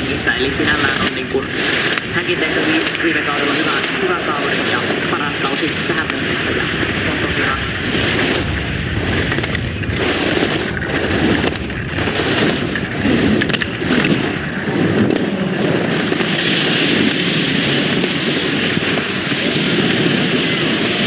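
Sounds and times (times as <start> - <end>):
skis scraping on icy snow: 0.0 - 21.0.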